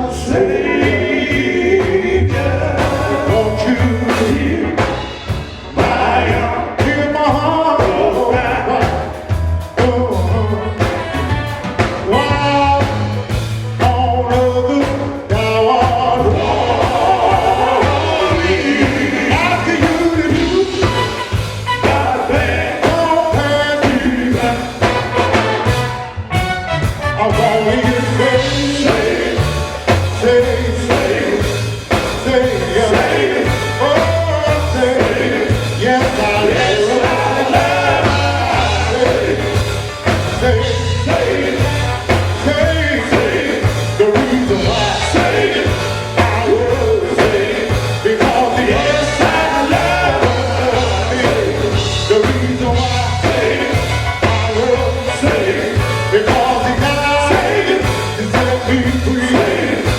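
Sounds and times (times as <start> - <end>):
backing band bass and drums: 0.0 - 59.9
gospel group singing: 0.0 - 59.9.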